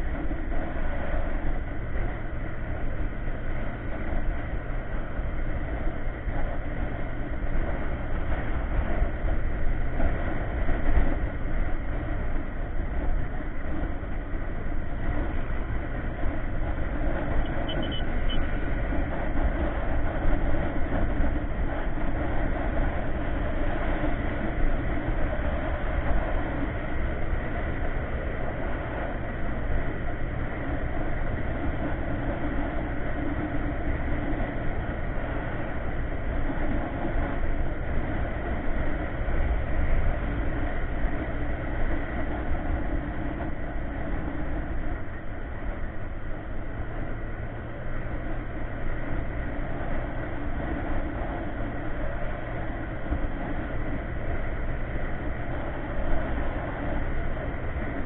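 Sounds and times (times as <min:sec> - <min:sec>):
road noise: 0:00.0 - 0:58.0
scooter engine running: 0:00.0 - 0:58.0.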